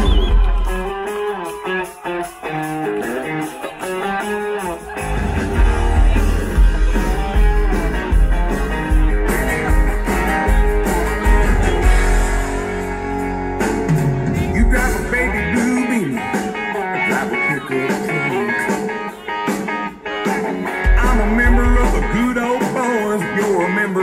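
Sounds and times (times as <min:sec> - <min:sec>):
country band playing: 0:00.0 - 0:24.0
guitar melody: 0:00.0 - 0:24.0.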